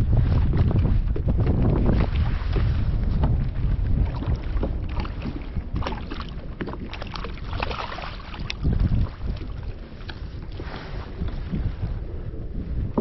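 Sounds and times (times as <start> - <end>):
water splashing against a hull: 0.0 - 13.0
wind buffeting the microphone: 0.0 - 13.0.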